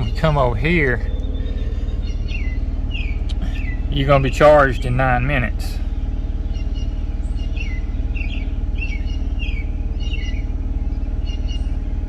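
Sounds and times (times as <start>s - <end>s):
small bird chirping: 0.0s - 5.0s, 5.8s - 12.0s
vehicle engine idling: 0.0s - 12.0s.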